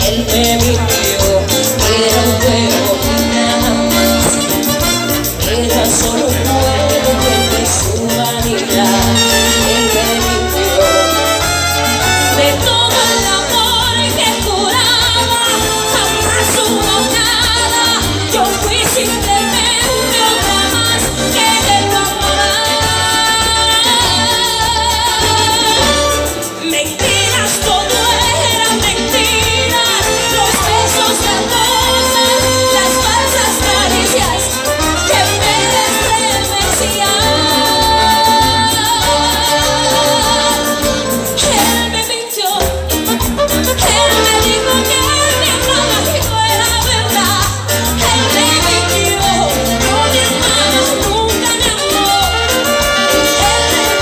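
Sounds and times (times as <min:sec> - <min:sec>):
live latin dance band with singer: 0:00.0 - 0:54.0.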